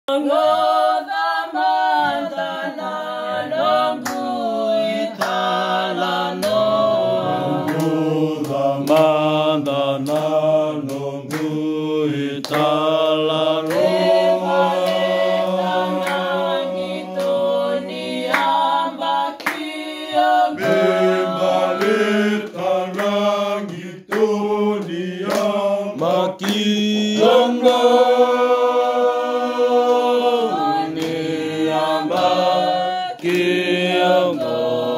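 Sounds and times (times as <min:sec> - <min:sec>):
group singing in harmony: 0:00.1 - 0:34.9.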